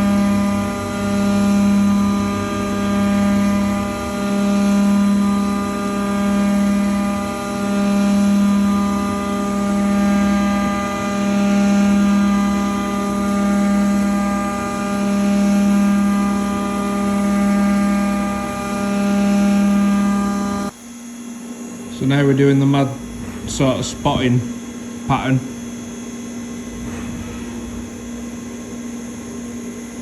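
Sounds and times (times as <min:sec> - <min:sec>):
milling machine spindle hum: 0:00.0 - 0:30.0.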